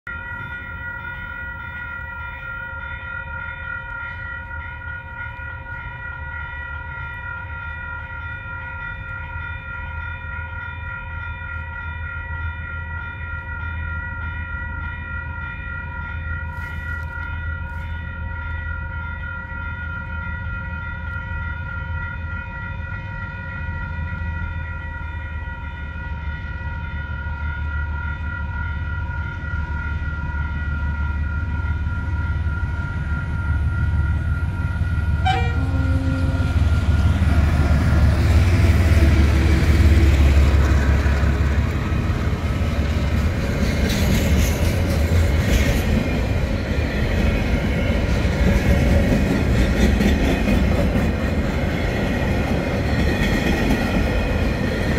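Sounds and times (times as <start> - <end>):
diesel train rumble: 0.1 - 54.9.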